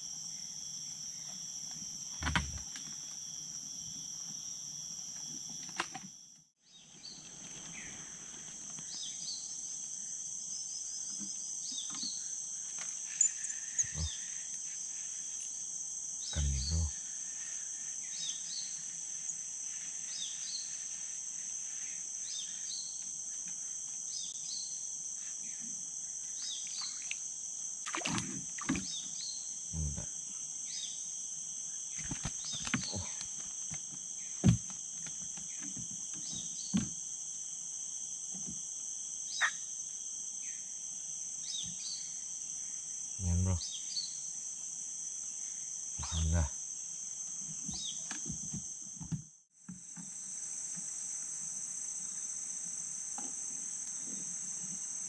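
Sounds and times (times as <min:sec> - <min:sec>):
short insect chirp: 0:00.0 - 0:48.9
high-pitched insect chorus: 0:00.0 - 0:55.0.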